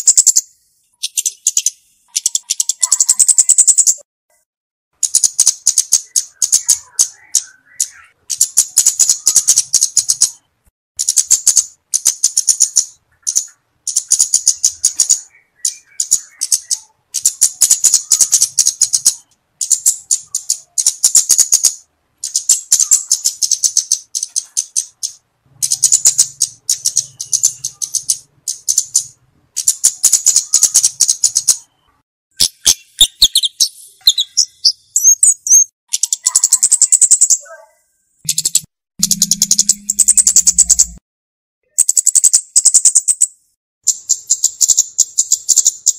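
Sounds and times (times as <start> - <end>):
bird calling in high ticks: 0.0 - 4.0, 5.0 - 10.4, 11.0 - 31.7, 32.4 - 41.0, 41.6 - 45.9.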